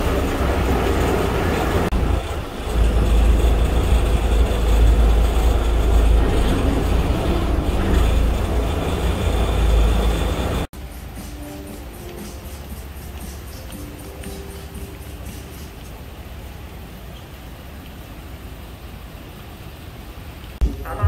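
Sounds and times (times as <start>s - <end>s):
boat engine rumbling: 0.0s - 10.7s, 11.9s - 21.0s
water wash: 0.0s - 20.7s.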